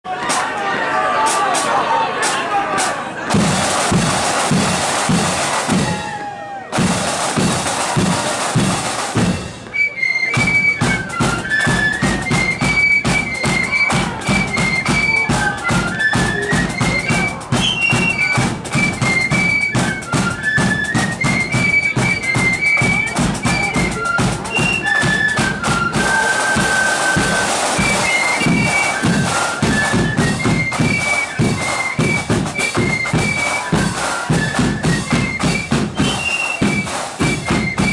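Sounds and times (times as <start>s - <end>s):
bass drum and snare beat: 3.3s - 6.2s, 6.8s - 9.6s, 10.9s - 37.9s
flutes playing high melody: 3.7s - 37.9s.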